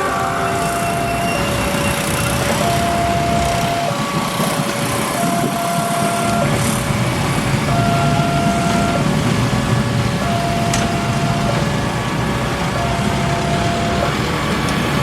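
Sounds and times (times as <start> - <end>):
two-tone level-crossing alarm: 0.0 - 14.5
loud steady rushing noise: 0.0 - 15.0.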